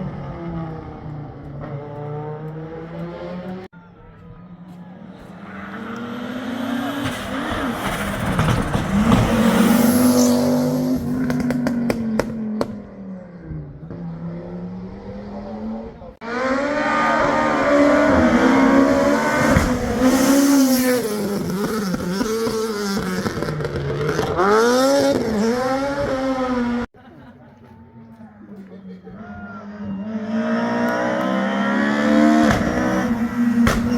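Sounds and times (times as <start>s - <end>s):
rally car engines revving: 0.0s - 3.7s, 4.4s - 26.9s, 29.1s - 33.9s.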